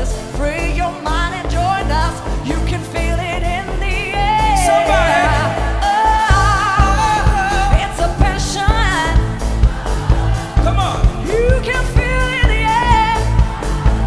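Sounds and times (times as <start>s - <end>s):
woman singing: 0.0s - 9.4s, 11.2s - 14.0s
bass: 0.0s - 14.0s.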